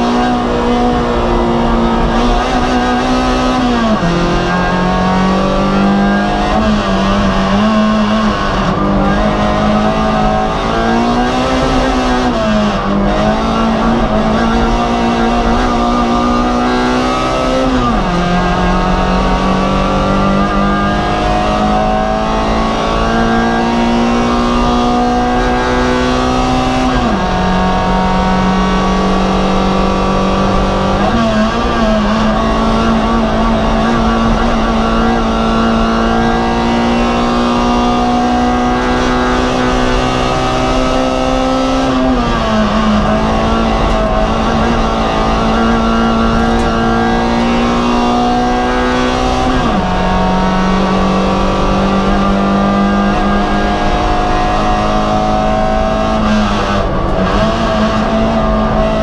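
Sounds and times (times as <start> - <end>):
race car engine under load: 0.0 - 59.0.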